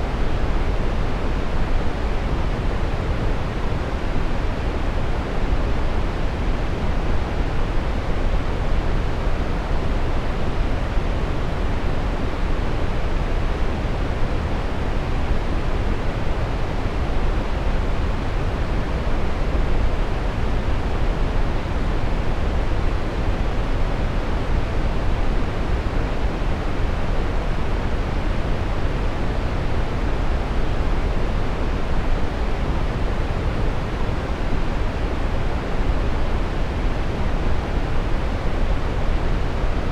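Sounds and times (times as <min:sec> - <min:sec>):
steady brown noise: 0:00.0 - 0:39.9.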